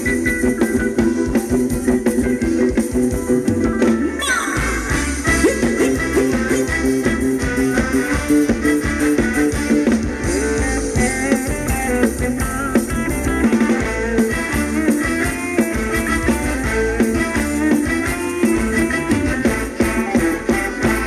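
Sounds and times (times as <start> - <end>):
drum kit steady beat: 0.0 - 21.0
guitar: 0.0 - 21.0
live band dance music: 0.0 - 21.0.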